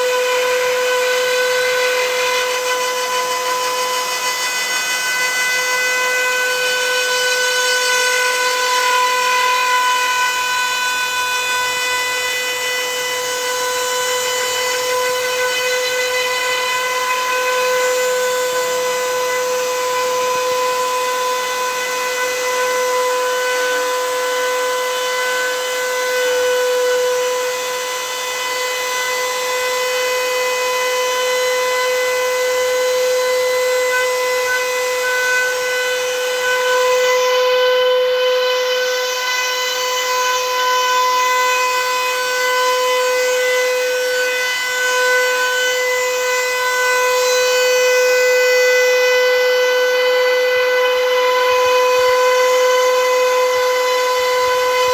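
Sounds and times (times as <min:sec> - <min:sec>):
router spindle whining: 0:00.0 - 0:54.9.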